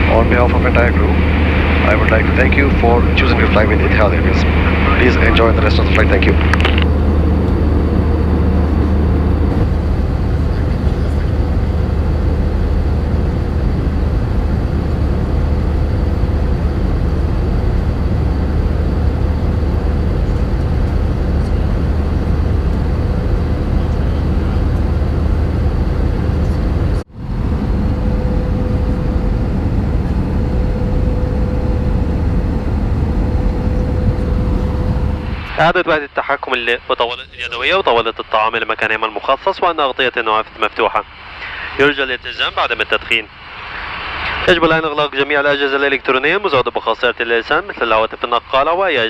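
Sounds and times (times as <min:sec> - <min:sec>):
low hum: 0:00.0 - 0:39.5, 0:40.5 - 0:46.0
airflow and engine noise: 0:00.0 - 0:49.0
faint steady whine: 0:00.0 - 0:49.0.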